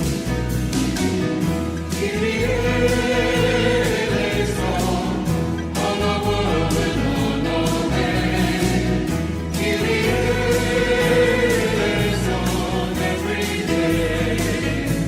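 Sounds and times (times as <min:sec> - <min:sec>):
instrumental accompaniment: 0:00.0 - 0:15.0
choir singing a hymn: 0:01.8 - 0:15.0.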